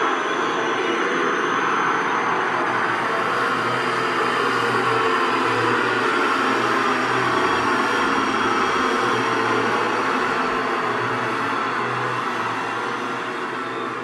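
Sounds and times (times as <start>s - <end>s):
loud droning noise: 0.0s - 14.0s.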